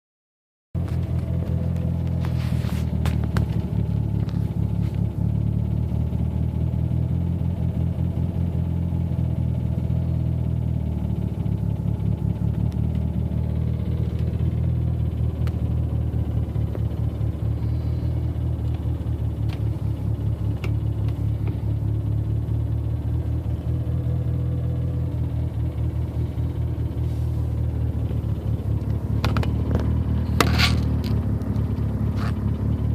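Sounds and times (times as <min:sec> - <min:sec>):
car engine idling: 0:00.8 - 0:32.9.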